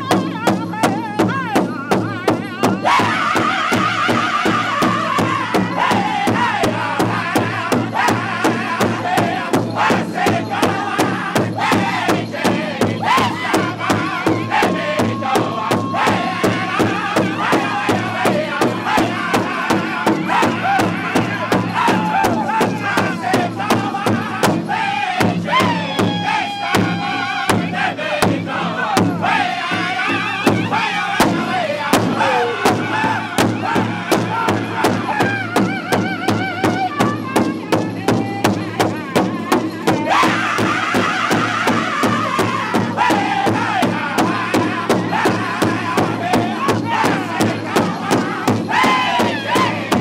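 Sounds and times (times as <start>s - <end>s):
large drum beating steadily: 0.0s - 50.0s
men singing in high unison: 0.0s - 50.0s.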